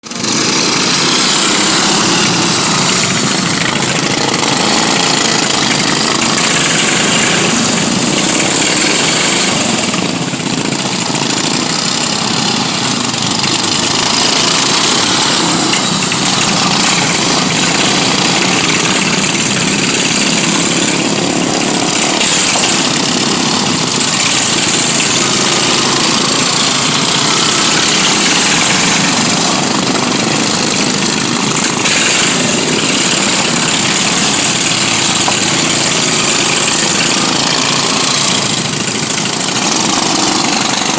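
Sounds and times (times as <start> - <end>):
racing lawn mower engine: 0.0 - 40.9.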